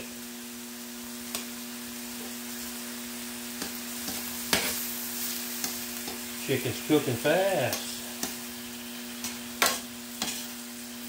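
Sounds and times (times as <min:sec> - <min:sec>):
chicken sizzling on a griddle: 0:00.0 - 0:11.0.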